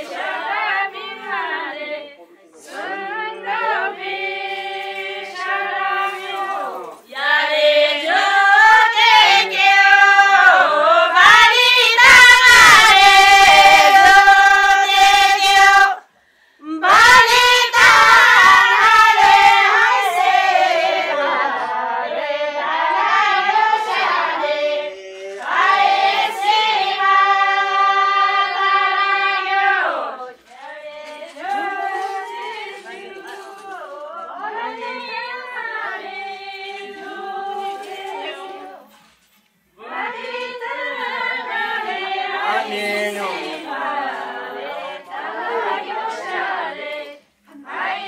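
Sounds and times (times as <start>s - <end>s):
women singing in unison: 0.0s - 48.0s.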